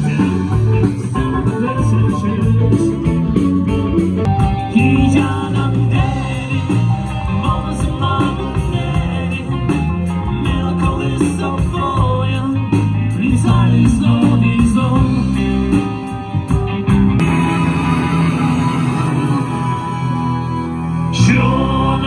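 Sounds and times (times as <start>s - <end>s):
drum kit beat: 0.0s - 21.4s
bass guitar: 0.0s - 22.0s
electric guitars: 0.0s - 22.0s.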